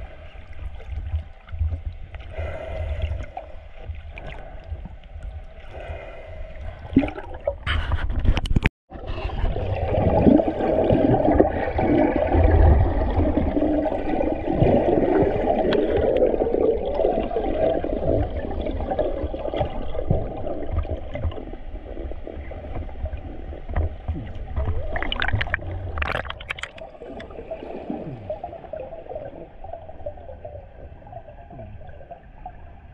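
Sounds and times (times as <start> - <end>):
bubbling and crackling: 0.0 - 32.9
underwater rumble of moving water: 0.0 - 32.9.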